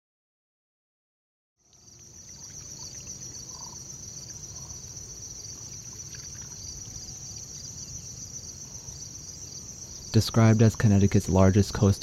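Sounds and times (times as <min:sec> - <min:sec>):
faint chirps: 0:01.6 - 0:12.0
insects trilling: 0:01.6 - 0:12.0.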